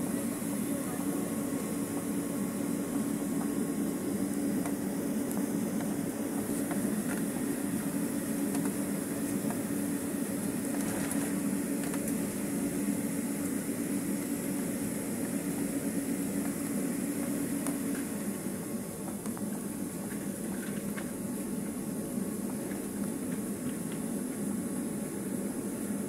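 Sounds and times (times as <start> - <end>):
jet engines droning: 0.0 - 21.4.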